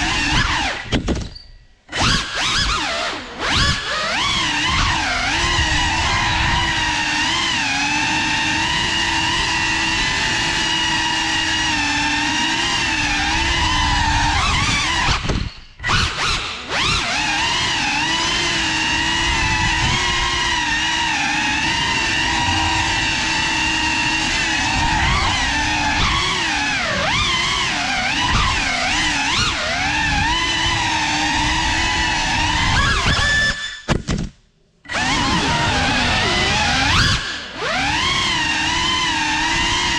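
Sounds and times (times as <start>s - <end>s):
quadcopter motors whining: 0.0s - 33.9s, 34.8s - 39.9s.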